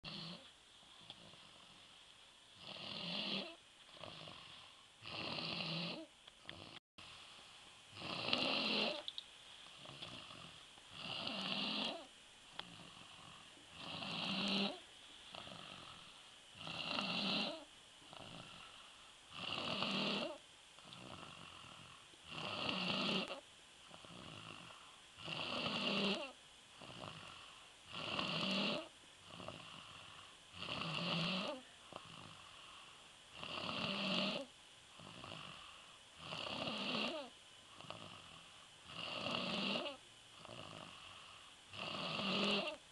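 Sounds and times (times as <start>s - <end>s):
boy snoring: 0.0s - 1.8s, 2.6s - 6.8s, 7.9s - 9.1s, 9.8s - 42.9s
quiet breathing: 0.1s - 42.9s.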